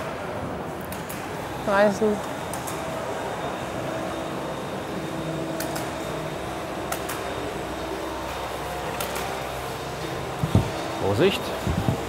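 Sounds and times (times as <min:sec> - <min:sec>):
ventilation hum and hiss: 0:00.0 - 0:12.0.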